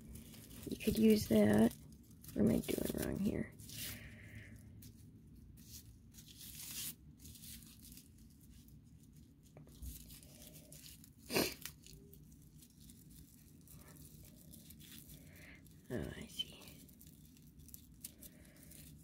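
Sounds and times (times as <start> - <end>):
raffia rustling and crinkling: 0.0 - 19.0.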